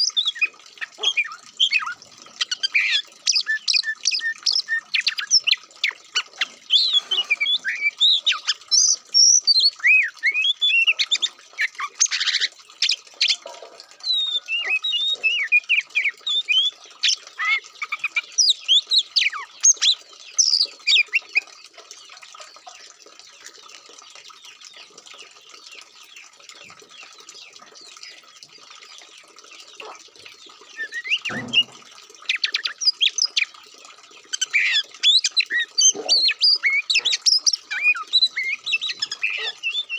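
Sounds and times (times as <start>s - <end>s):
bird singing varied song: 0.0s - 22.2s, 24.3s - 33.5s, 34.2s - 39.9s.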